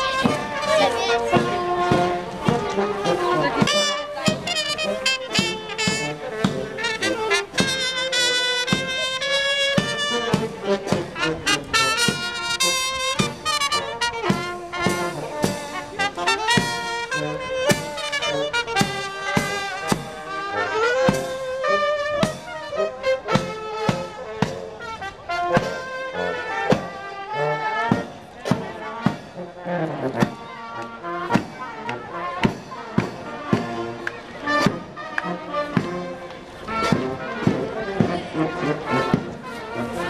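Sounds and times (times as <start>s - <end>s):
steady drum beat: 0.0s - 29.4s, 30.1s - 39.4s
marching brass band: 0.0s - 40.0s.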